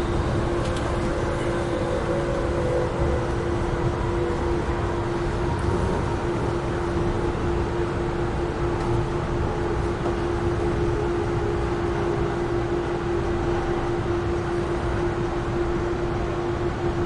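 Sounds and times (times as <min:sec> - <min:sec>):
constant low hum: 0:00.0 - 0:17.0
passenger train rumbling: 0:00.0 - 0:17.0.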